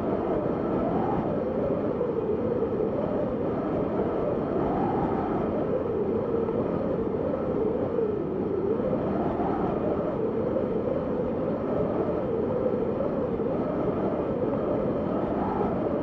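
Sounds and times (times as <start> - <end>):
howling wind gust: 0.0 - 16.0.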